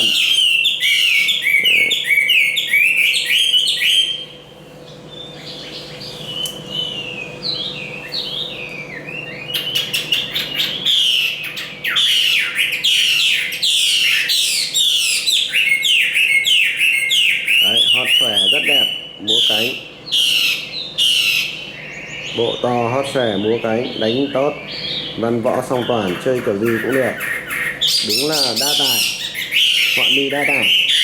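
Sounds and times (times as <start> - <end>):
songbird singing: 0.0 - 31.0.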